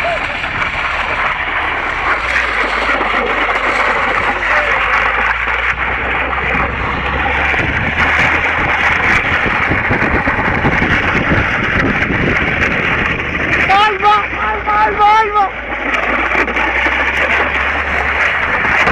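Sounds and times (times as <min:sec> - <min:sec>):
car moving rushing noise: 0:00.0 - 0:18.9
wind buffeting microphone: 0:00.0 - 0:18.9.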